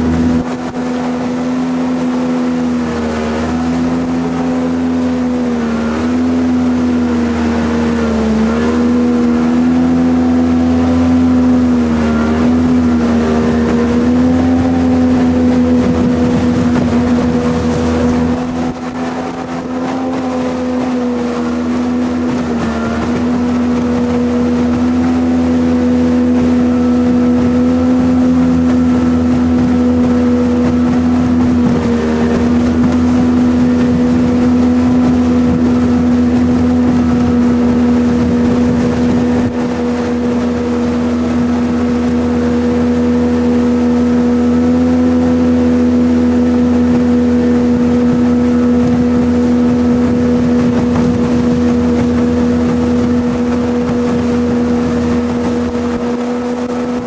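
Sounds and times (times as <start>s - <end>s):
jet boat engine droning: 0.0s - 57.0s.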